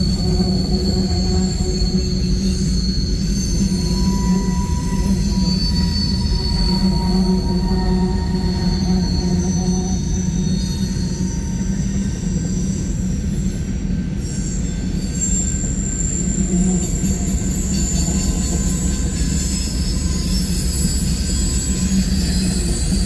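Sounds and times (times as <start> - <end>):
wheels squealing: 0.0 - 13.5, 14.1 - 23.0
train cars rolling rumble: 0.0 - 23.0.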